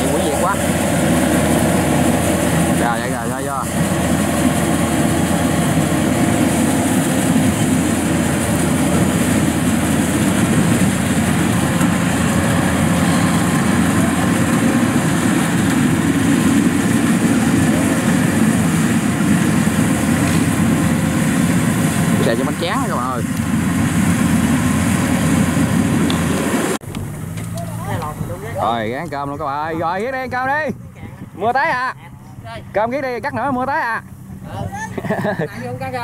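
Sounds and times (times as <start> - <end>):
combine harvester drone: 0.0 - 36.0.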